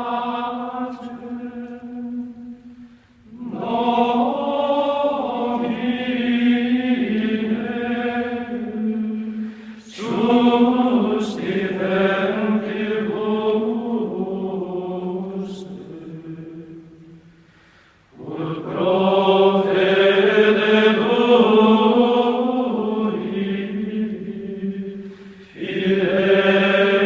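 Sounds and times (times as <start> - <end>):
choral chanting: 0.0 - 17.4, 18.1 - 27.0.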